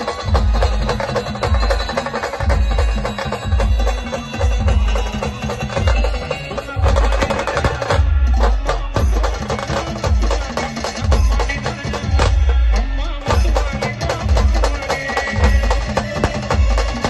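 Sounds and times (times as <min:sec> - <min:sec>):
band playing devotional song: 0:00.0 - 0:17.0
deep drum strikes: 0:00.0 - 0:17.0.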